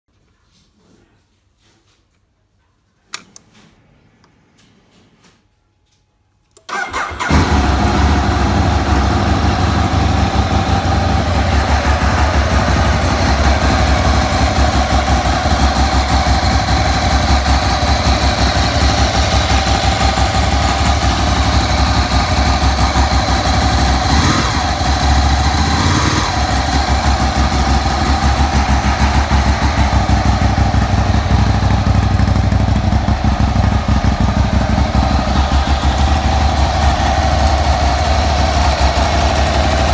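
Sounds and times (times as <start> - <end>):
motorcycle engine starting and idling: 6.6 - 39.9.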